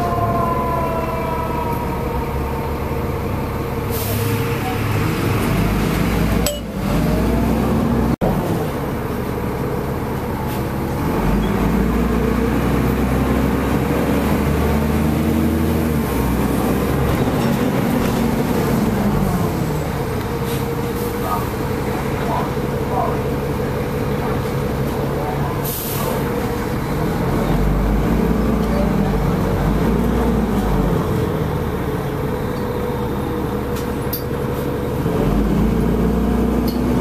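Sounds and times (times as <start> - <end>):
bus engine running: 0.0 - 37.0.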